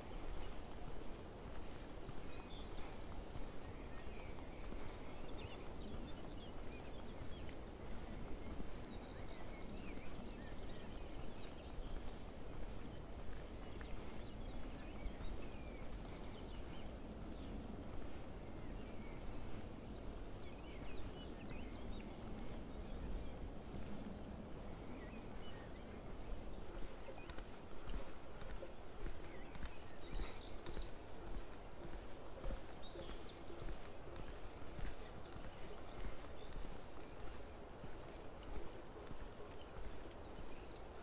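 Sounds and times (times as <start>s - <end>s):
low outdoor background noise: 0.0s - 41.0s
small birds chirping: 0.0s - 41.0s.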